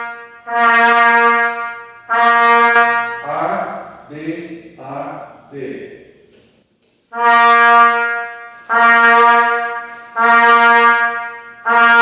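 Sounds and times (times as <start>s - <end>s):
trumpet long notes: 0.0s - 5.7s, 7.1s - 12.0s.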